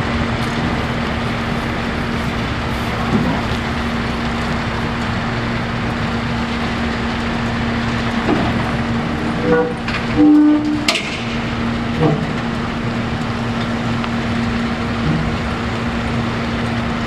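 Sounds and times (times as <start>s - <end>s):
heavy vehicle engine hum: 0.0s - 17.0s
road rumble: 0.0s - 17.0s.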